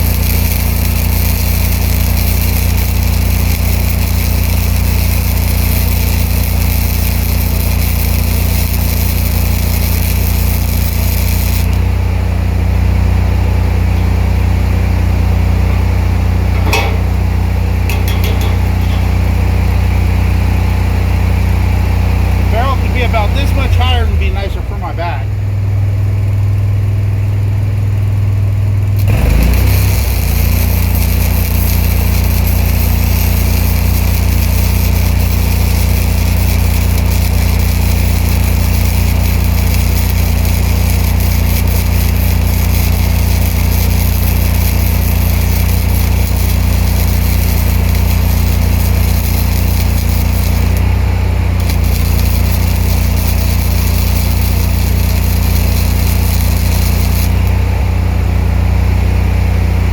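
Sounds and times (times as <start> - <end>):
welding arc hissing and crackling: 0.0 - 12.0, 15.8 - 20.2, 22.4 - 25.2, 29.0 - 57.9
welder engine running: 0.0 - 59.9.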